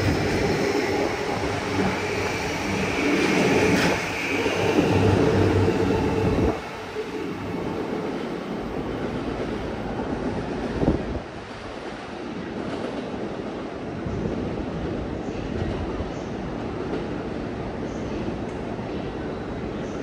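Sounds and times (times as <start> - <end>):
train wheels rumbling: 0.0 - 17.4.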